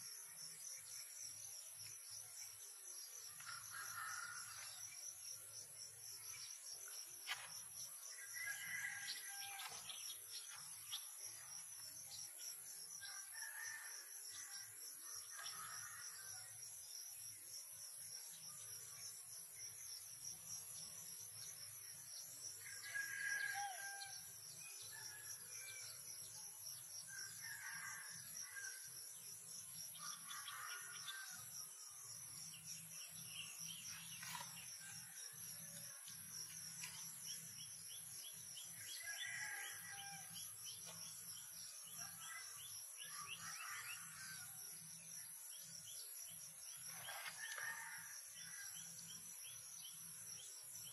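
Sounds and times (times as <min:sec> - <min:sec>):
high insect drone: 0:00.0 - 0:50.9.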